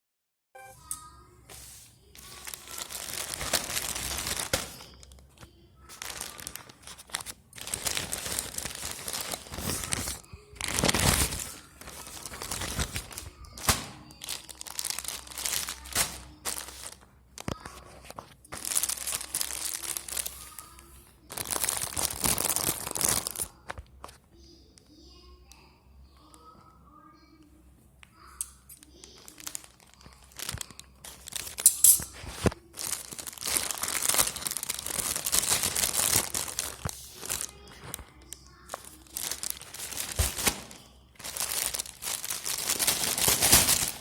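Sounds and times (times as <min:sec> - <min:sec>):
packaging crinkling and tearing: 0:02.1 - 0:24.2, 0:28.9 - 0:44.0.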